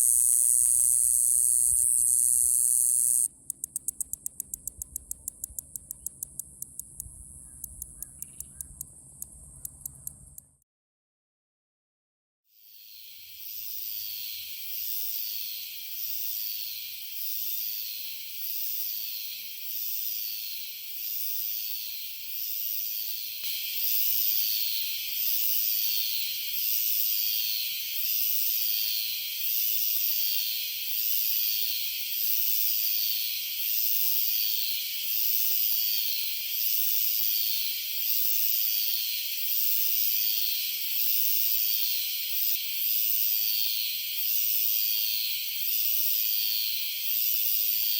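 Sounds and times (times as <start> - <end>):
cicadas buzzing: 0.0 - 10.5, 12.7 - 47.9.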